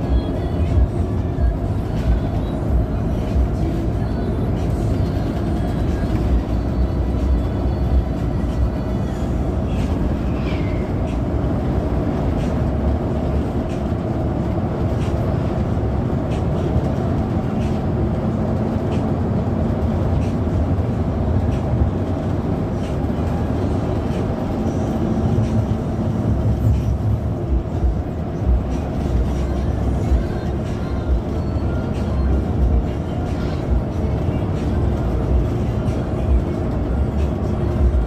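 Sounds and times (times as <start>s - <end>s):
bus engine and road noise: 0.0s - 38.0s.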